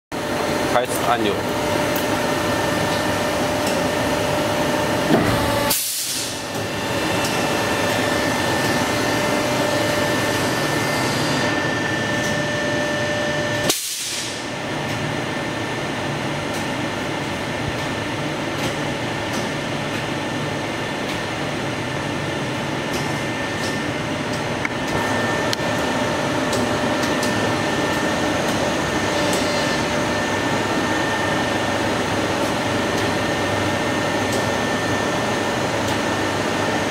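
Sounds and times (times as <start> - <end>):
machine humming with faint whine: 0.2 - 36.9.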